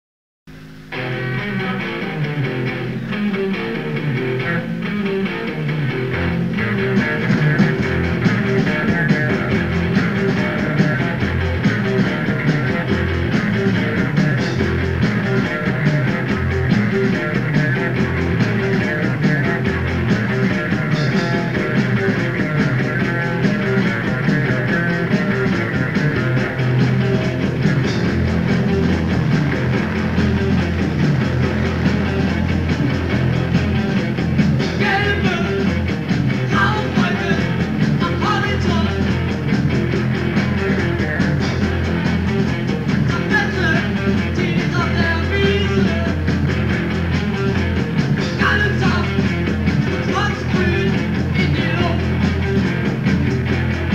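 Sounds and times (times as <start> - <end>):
live punk rock band: 0.5 - 53.9.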